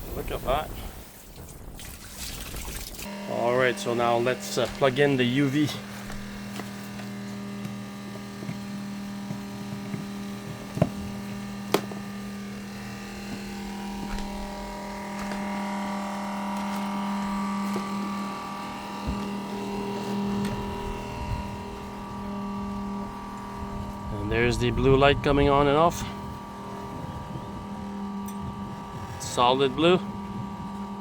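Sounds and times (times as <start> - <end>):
high steady whine: 0.0 - 31.0
water pump humming: 1.7 - 31.0.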